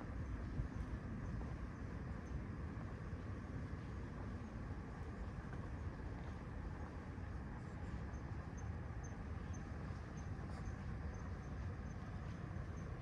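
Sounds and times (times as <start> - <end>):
low city street rumble: 0.0 - 13.0.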